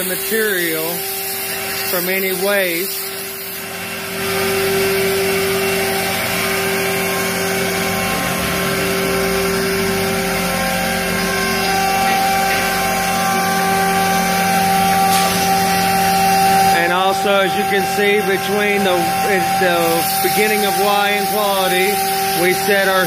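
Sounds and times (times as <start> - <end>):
router spindle whining: 0.0 - 23.0
higher machine tone: 3.9 - 23.0.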